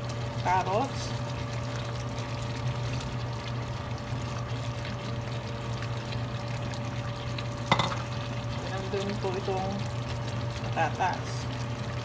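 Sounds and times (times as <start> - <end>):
wet pouring sound: 0.0 - 12.0.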